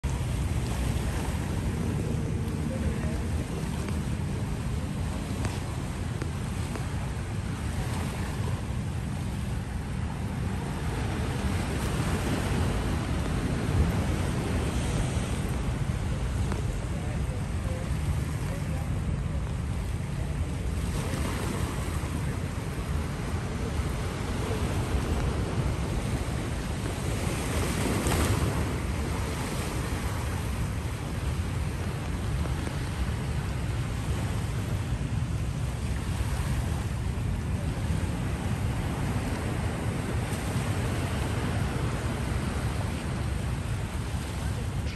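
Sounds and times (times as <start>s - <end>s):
distant surf breaking: 0.0s - 44.9s
waves washing against rocks: 0.0s - 44.9s
wind rumbling on microphone: 0.0s - 44.9s.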